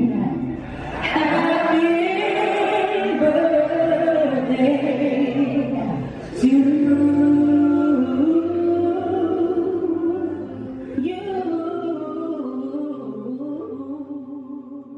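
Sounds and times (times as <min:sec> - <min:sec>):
singers holding notes in harmony: 0:00.0 - 0:14.9.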